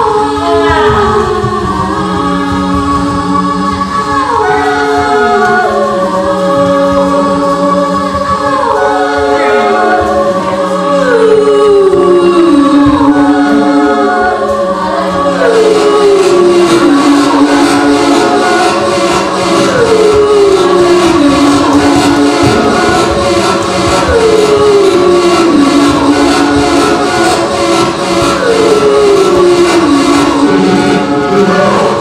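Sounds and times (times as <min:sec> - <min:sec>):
voices singing in harmony: 0:00.0 - 0:32.0.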